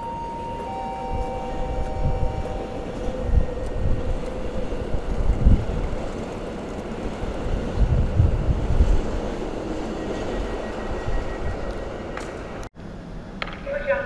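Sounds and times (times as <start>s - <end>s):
train rumbling on track: 0.0s - 13.6s.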